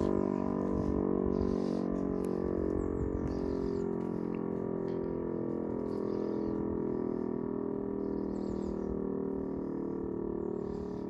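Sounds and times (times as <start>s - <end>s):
birds chirping: 0.0s - 11.0s
siren steady tone: 0.0s - 11.0s.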